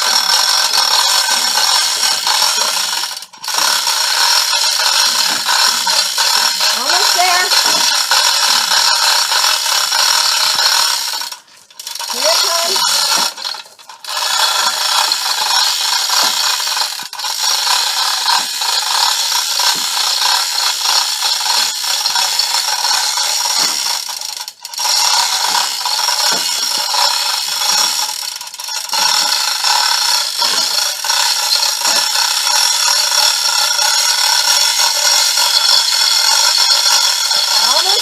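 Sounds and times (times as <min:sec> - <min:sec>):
hand hoist rattling and clicking: 0:00.0 - 0:38.0.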